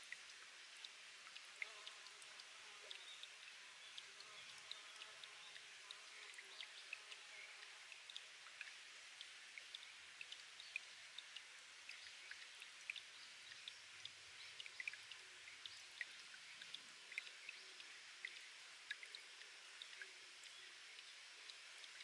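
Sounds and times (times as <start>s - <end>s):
water drip plinks: 0.0s - 22.0s
water trickling off rock: 0.0s - 22.0s.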